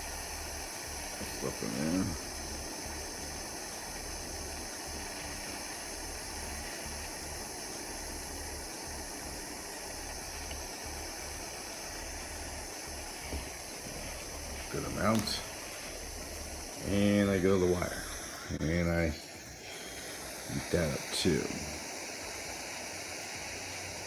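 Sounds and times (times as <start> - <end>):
low wavering hum: 0.0 - 20.7
steady hiss: 0.0 - 24.0.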